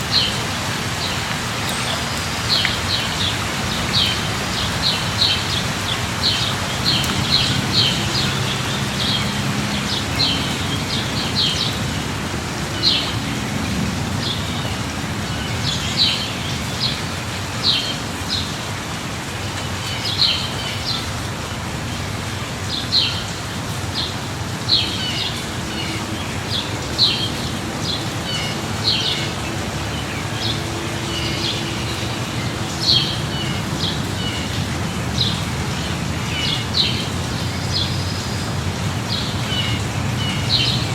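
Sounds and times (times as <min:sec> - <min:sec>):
light rain: 0:00.0 - 0:40.9.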